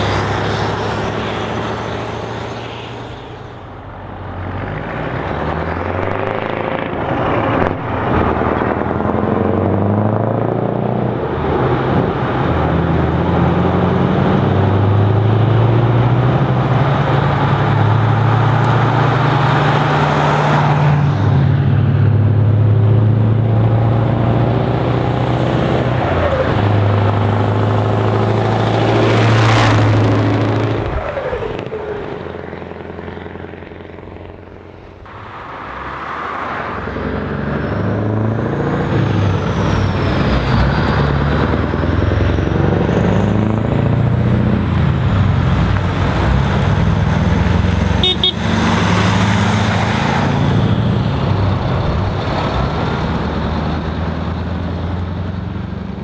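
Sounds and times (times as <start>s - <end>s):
diesel trucks driving past: 0.0s - 56.0s
truck engine accelerating and shifting: 0.0s - 56.0s.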